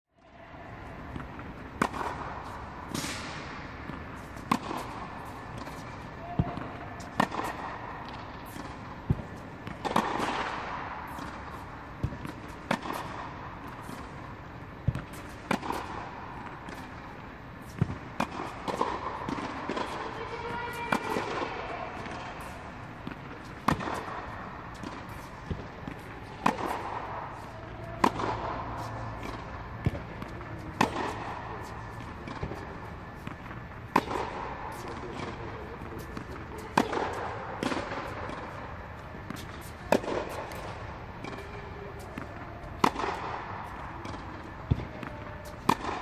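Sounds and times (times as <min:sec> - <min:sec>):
tennis ball bouncing: 0:00.8 - 0:46.0
tennis ball hit by racket: 0:01.1 - 0:46.0.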